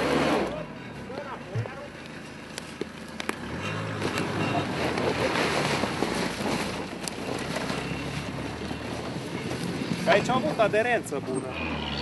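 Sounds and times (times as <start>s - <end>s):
tyres crunching through snow: 0.0s - 12.0s
truck engine running under load: 1.8s - 12.0s.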